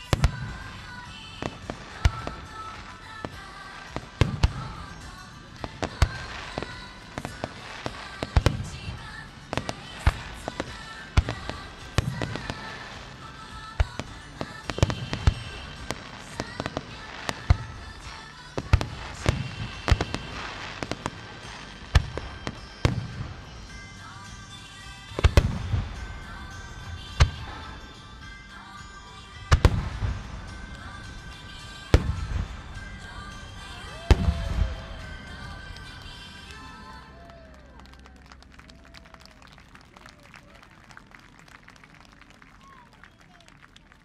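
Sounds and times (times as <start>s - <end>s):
fireworks bursting: 0.0s - 43.6s.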